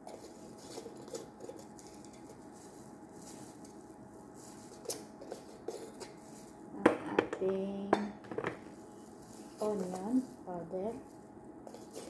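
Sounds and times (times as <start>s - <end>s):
plastic glove rustling: 0.0s - 6.7s, 8.6s - 12.0s.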